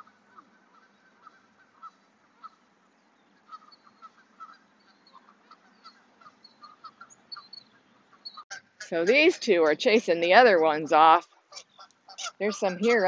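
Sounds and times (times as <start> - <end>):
geese honking in the distance: 0.0 - 13.0.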